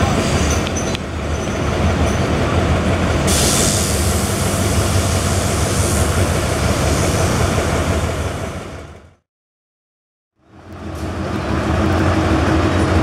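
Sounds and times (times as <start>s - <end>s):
diesel train engine drone: 0.0s - 9.2s, 10.4s - 13.0s
rail noise: 0.0s - 9.2s, 10.4s - 13.0s.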